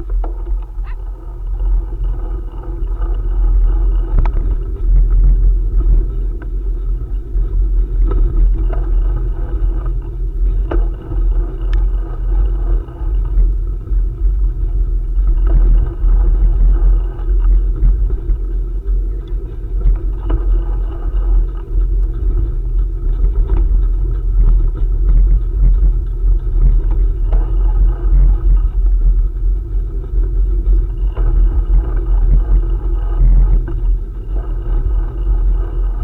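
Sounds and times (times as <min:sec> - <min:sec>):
bicycle tyres rolling: 0:00.0 - 0:36.0
wind rumble on microphone: 0:00.0 - 0:36.0.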